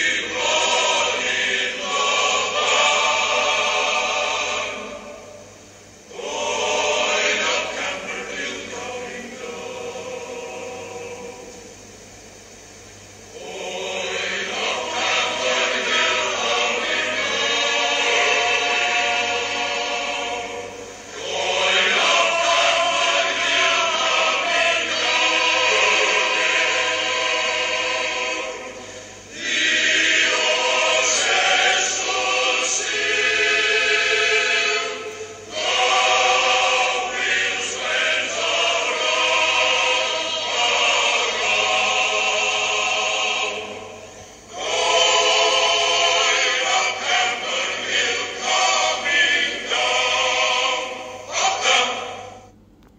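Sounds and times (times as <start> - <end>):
choir singing: 0.0 - 12.1, 13.0 - 52.6.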